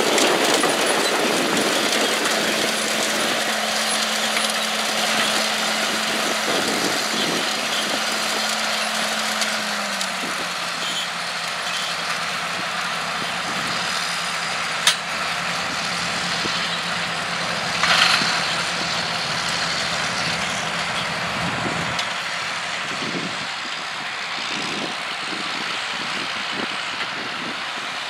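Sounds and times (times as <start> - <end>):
diesel tractor running under load: 0.0 - 28.0.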